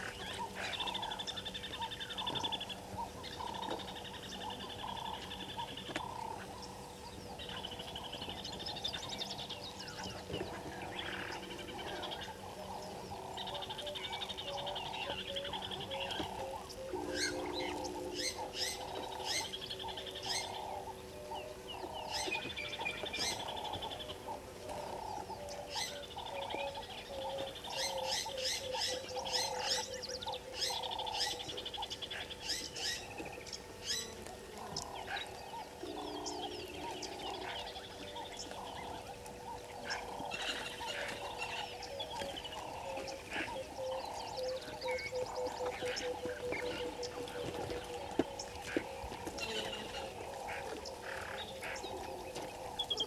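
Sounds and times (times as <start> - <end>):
birds chirping and calling: 0.0 - 53.0
pulsing background chorus: 0.0 - 53.0.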